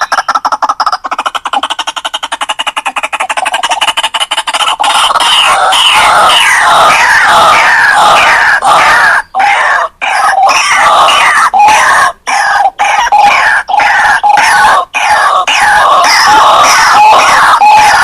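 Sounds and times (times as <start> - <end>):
waterhens calling harshly: 0.0 - 18.0.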